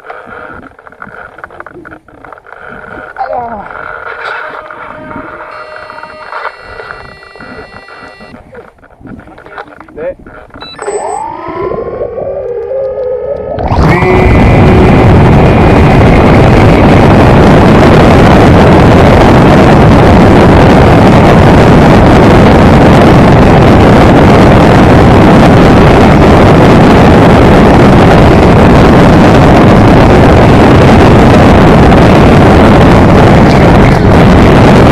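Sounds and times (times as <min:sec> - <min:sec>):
drone propeller roar: 0:00.0 - 0:34.9.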